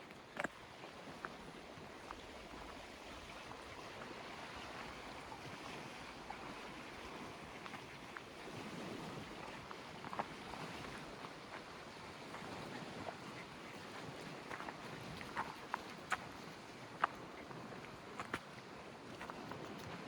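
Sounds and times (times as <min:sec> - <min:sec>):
faint water ticks: 0:00.0 - 0:20.0
lake waves lapping: 0:00.7 - 0:20.0.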